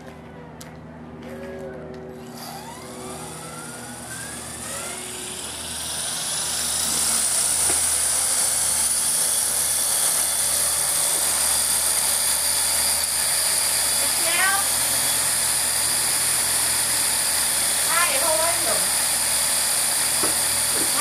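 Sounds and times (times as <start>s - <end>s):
electric helicopter motor whine: 0.0s - 21.0s.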